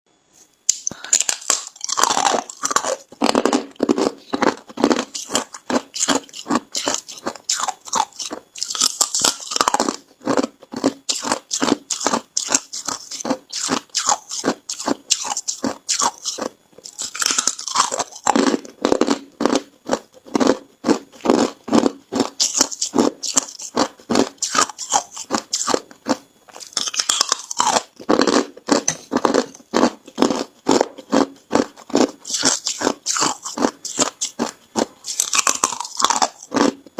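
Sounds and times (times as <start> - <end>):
ice crunching while chewed: 0.7 - 36.9.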